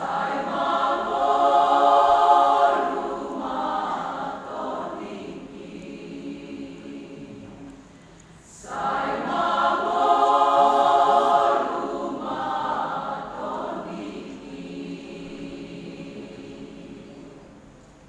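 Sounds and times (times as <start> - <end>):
choir singing: 0.0 - 7.8, 8.4 - 17.9.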